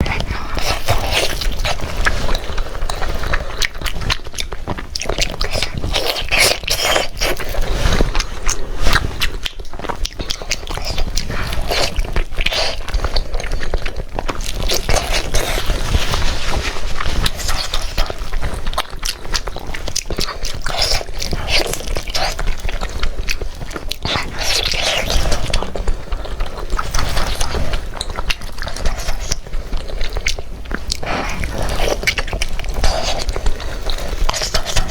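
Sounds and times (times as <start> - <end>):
chewing crunchy pork skin: 0.0 - 34.9.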